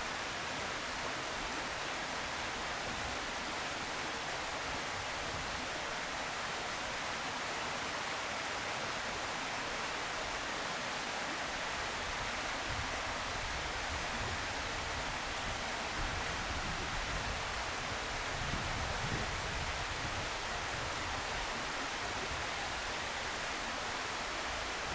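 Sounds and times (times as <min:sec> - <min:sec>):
steady outdoor hiss: 0:00.0 - 0:24.9.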